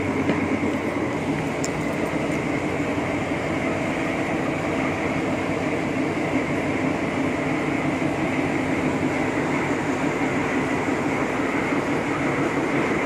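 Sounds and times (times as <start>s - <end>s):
locomotive engine and wheels drone: 0.0s - 13.0s.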